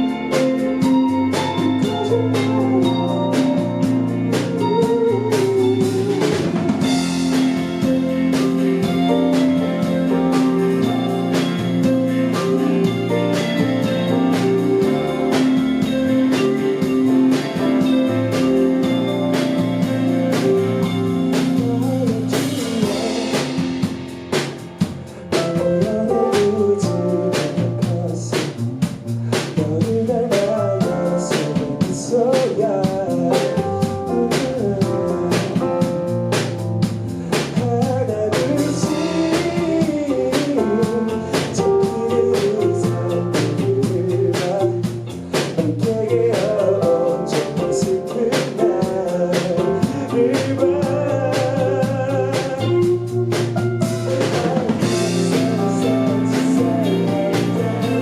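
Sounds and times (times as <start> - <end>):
person singing: 0.0 - 24.4, 25.0 - 36.3, 37.2 - 58.0
drum kit beat: 0.0 - 58.0
electric guitar: 0.0 - 58.0.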